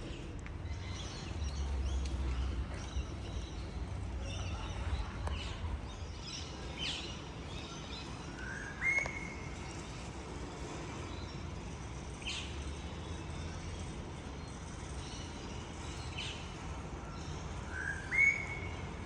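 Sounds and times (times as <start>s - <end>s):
low rumble of street noise: 0.0s - 19.0s.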